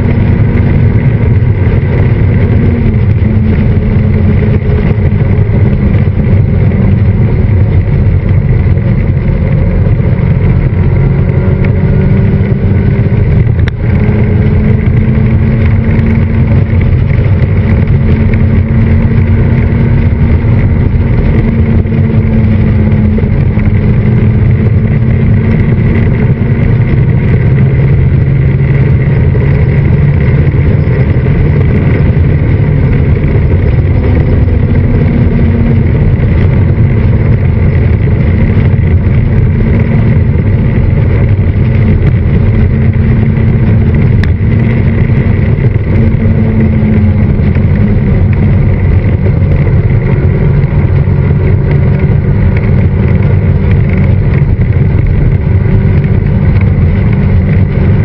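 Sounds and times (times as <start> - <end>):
heavy wind rush: 0.0 - 58.0
motorcycle engine running: 0.0 - 58.0.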